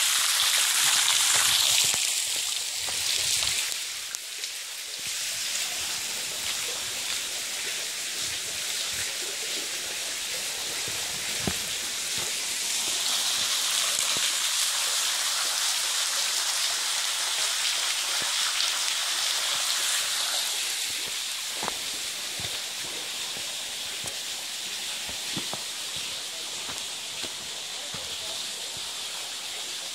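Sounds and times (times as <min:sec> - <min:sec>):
stream running over rocks: 0:00.0 - 0:29.9.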